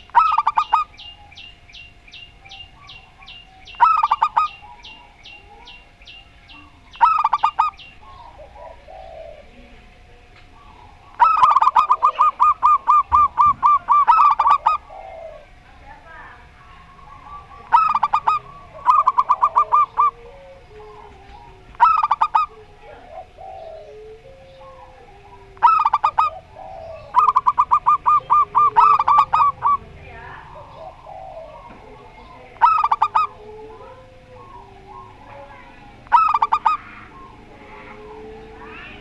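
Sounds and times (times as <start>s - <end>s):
doves cooing in staccato bursts: 0.0s - 39.0s
faint lower bird calls: 0.0s - 39.0s.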